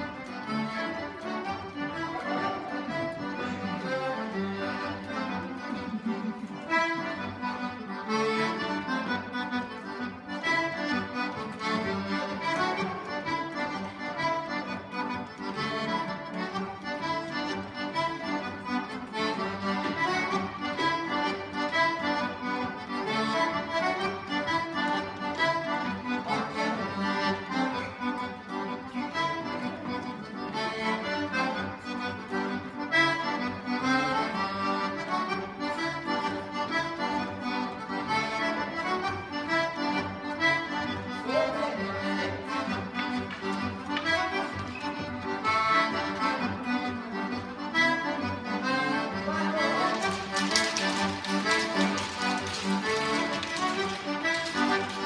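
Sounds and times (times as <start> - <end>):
accordion dance tune: 0.0 - 55.0.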